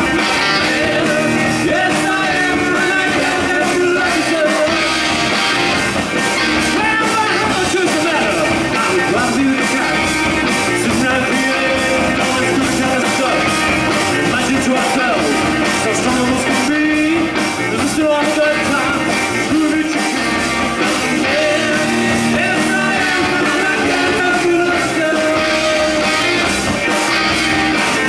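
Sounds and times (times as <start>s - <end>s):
rock and roll music with singing: 0.0s - 28.0s.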